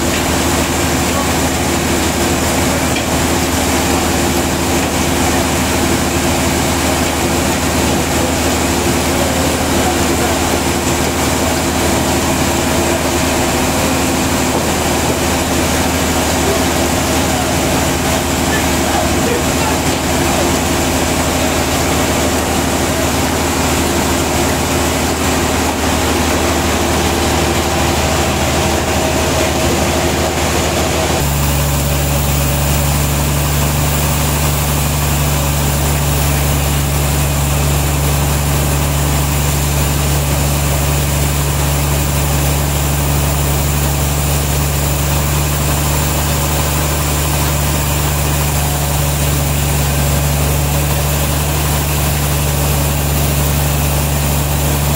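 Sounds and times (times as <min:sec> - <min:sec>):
sawmill machinery hum: 0:00.0 - 0:54.9.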